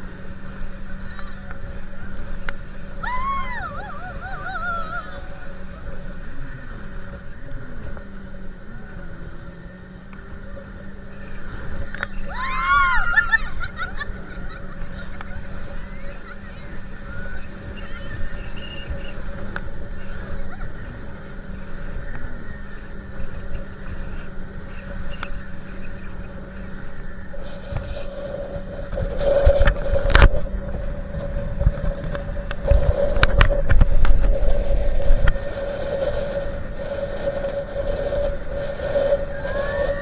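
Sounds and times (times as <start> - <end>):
motorboat engine running: 0.0 - 40.0
wind buffeting microphone: 0.0 - 40.0.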